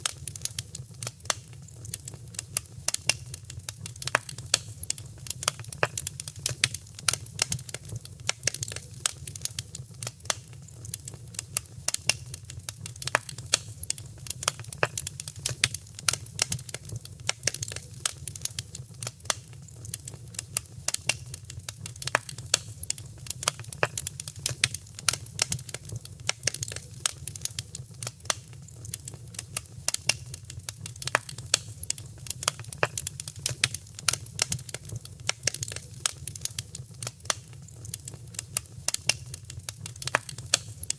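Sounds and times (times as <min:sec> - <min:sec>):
fire crackling in a fireplace: 0:00.0 - 0:40.9.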